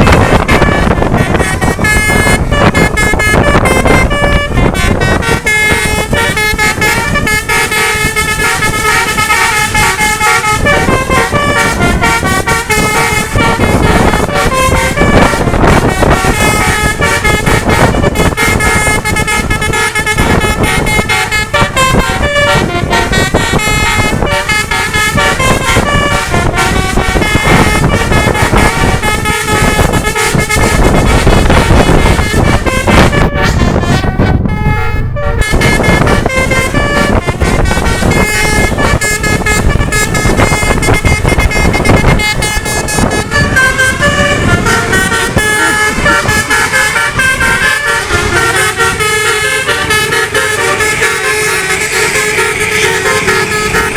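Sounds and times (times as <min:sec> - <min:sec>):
multi-tone horn playing a tune: 0:00.0 - 0:53.9
steady low rumble: 0:00.0 - 0:53.9.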